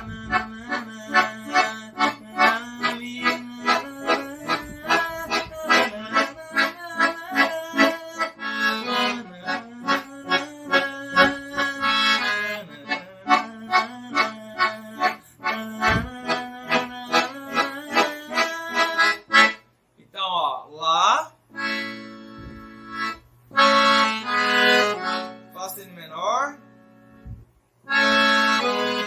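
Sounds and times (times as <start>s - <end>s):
accordion playing rhythmic chords: 0.0s - 19.9s, 21.5s - 29.0s.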